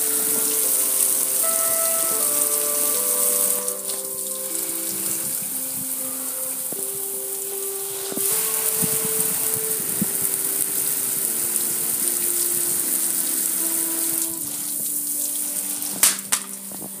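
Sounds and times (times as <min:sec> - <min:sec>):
water spraying on metal grill: 0:00.0 - 0:17.0.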